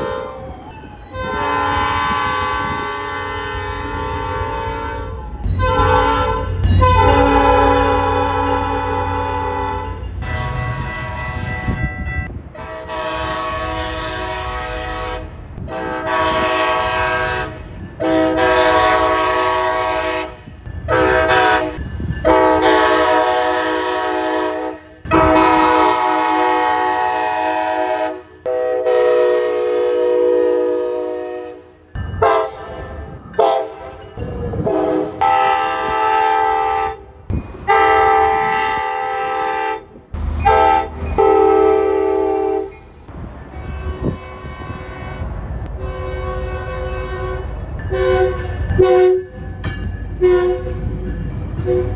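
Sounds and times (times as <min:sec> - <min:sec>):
train horn blasts: 0:00.0 - 0:00.5, 0:01.1 - 0:32.8, 0:33.4 - 0:49.4, 0:50.2 - 0:50.8, 0:51.6 - 0:51.9
low train rumble: 0:00.0 - 0:51.9.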